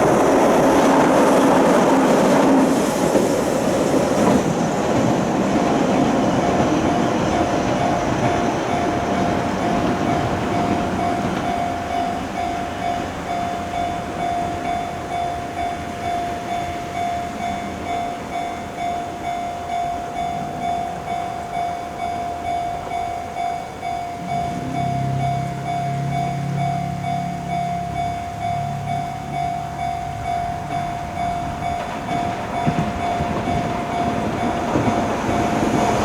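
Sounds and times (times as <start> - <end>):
level-crossing alarm bell ringing: 0.0 - 36.0
train rumble: 0.0 - 36.0.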